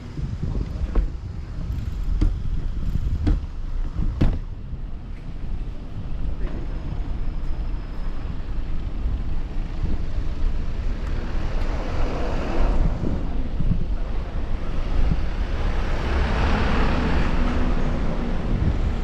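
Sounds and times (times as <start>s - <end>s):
road traffic: 0.0s - 19.0s
wind on microphone: 0.0s - 19.0s.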